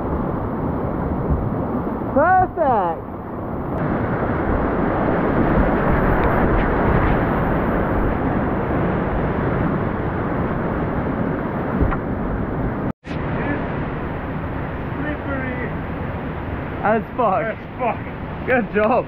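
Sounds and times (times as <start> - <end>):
rushing whitewater roar: 3.1 - 19.0.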